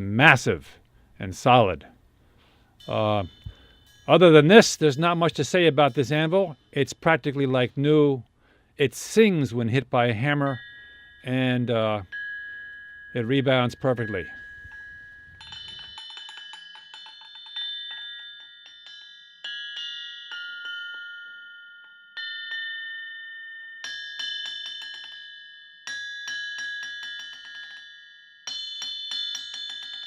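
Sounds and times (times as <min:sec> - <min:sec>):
bell-like anvil ring: 0:02.7 - 0:08.0, 0:09.4 - 0:30.0.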